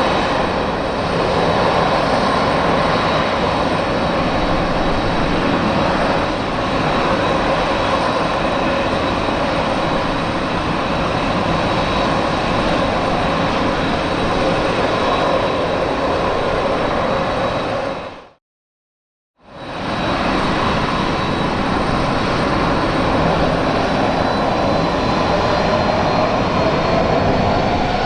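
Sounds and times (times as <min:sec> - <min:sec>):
jet engines running: 0:00.0 - 0:18.4, 0:19.5 - 0:28.0.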